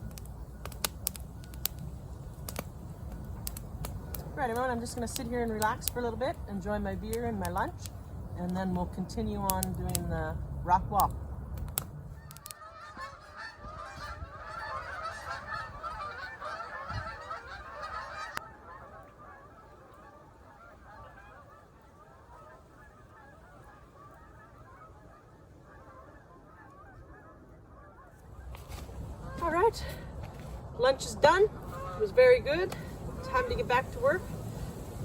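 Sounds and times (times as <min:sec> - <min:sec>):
geese honking: 0:00.0 - 0:11.2, 0:12.0 - 0:30.0, 0:30.8 - 0:35.0.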